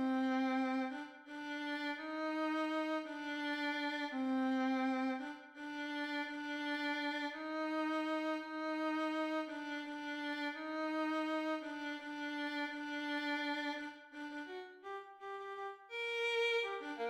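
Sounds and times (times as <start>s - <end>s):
violin long held notes: 0.0s - 17.0s.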